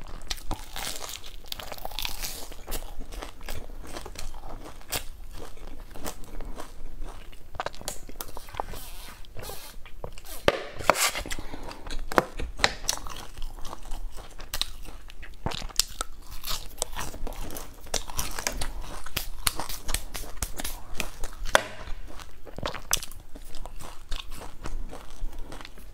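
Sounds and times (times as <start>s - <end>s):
crunching and chewing pastry: 0.0s - 25.9s.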